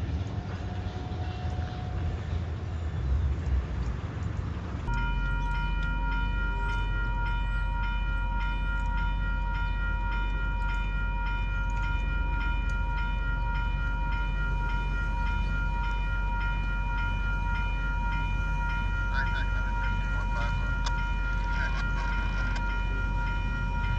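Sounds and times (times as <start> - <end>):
train rumbling: 0.0 - 23.9.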